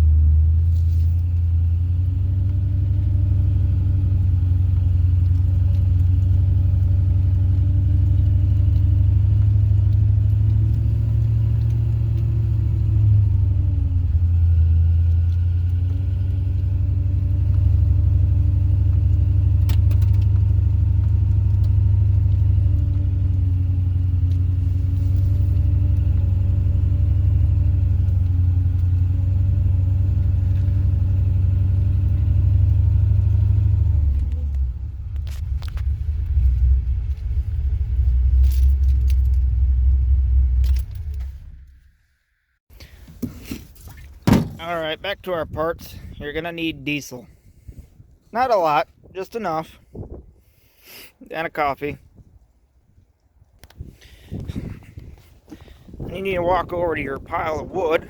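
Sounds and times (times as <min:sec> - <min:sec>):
engine running steadily: 0:00.0 - 0:50.0, 0:53.6 - 0:58.0.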